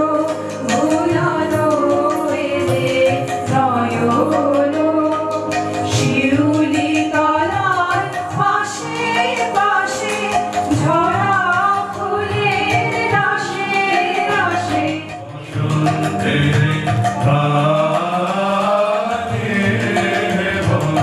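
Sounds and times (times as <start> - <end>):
women singing: 0.0 - 17.6
harmonium chords: 0.0 - 21.0
tabla strokes: 0.1 - 21.0.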